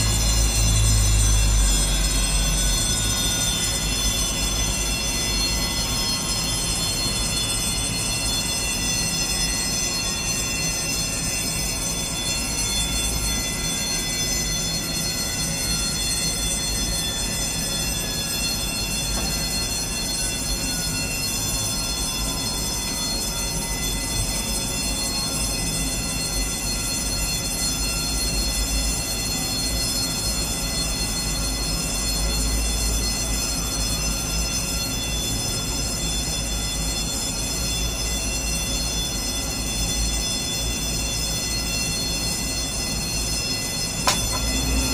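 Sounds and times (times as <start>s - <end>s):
jet turbine whine: 0.0s - 44.9s.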